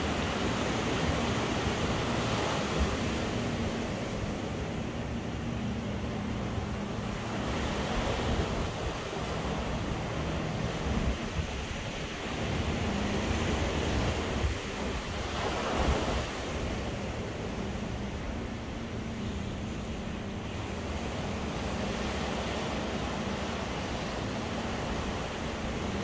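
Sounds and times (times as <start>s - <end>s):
ocean surf washing ashore: 0.0s - 26.0s
wind buffeting microphone: 0.0s - 26.0s.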